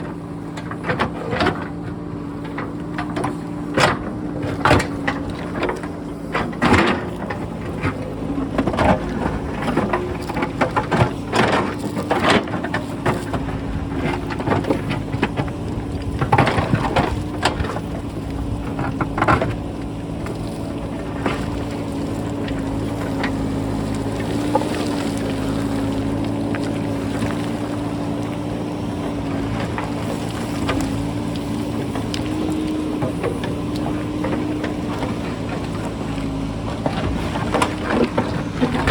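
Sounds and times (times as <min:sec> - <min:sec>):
diesel engine running: 0:00.0 - 0:38.9
rocks clattering against bucket: 0:00.0 - 0:38.9.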